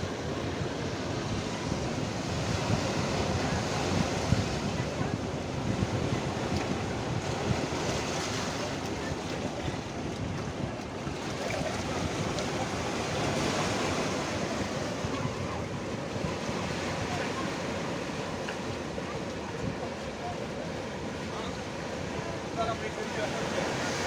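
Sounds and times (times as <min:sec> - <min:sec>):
sea surf washing onto shore: 0:00.0 - 0:24.0
wind buffeting microphone: 0:00.0 - 0:24.0.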